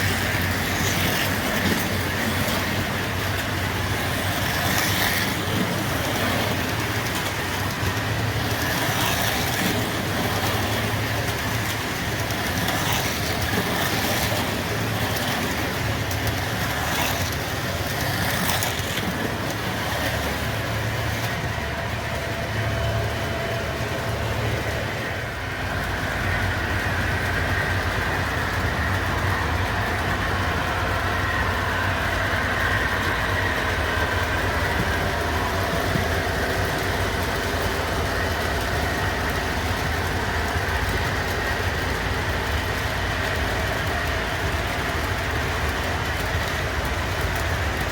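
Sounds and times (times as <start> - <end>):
model locomotive engine hum: 0.0 - 47.9
steady high whine: 0.0 - 47.9.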